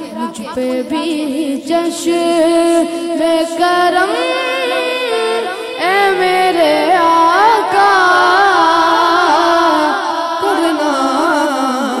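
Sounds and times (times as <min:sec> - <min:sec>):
boy singing into a microphone: 0:00.0 - 0:12.0.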